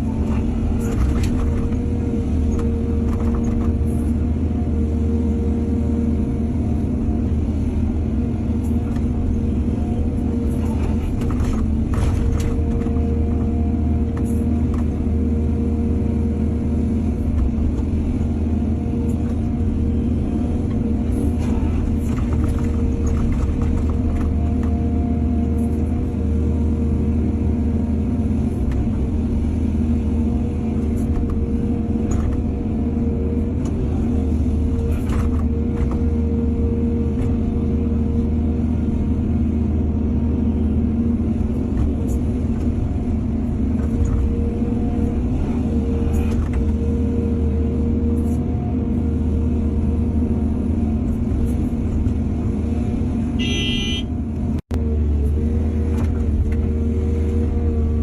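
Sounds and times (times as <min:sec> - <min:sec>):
diesel excavator running: 0:00.0 - 0:58.0.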